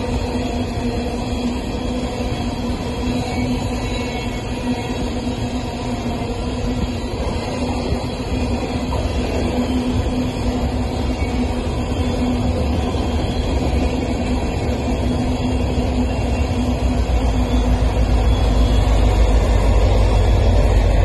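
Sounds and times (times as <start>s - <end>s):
coal train rumbling past: 0.0s - 21.0s
diesel locomotives passing: 0.0s - 21.0s.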